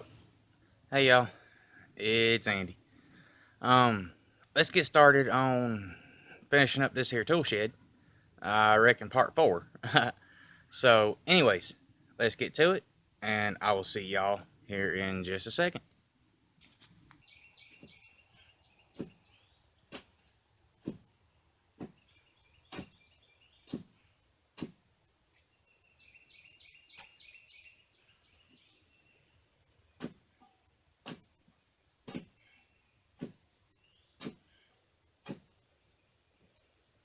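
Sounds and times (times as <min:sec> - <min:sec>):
birds chirping: 0:00.0 - 0:20.9, 0:21.8 - 0:24.2, 0:25.3 - 0:37.0
high insect drone: 0:00.0 - 0:37.0.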